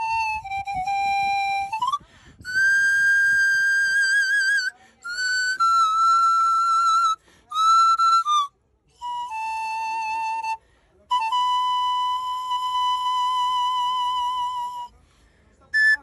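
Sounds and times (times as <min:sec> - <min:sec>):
panflute notes: 0:00.0 - 0:15.0, 0:15.7 - 0:16.0.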